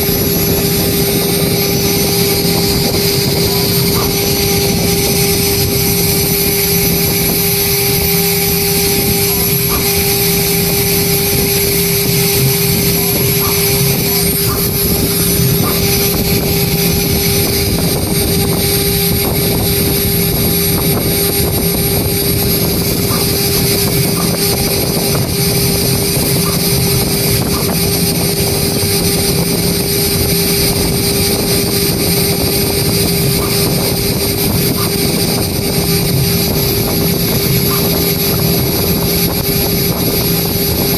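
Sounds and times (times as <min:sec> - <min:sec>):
engraving bit cutting metal panel: 0:00.0 - 0:40.9
engraving machine spindle running: 0:00.0 - 0:40.9.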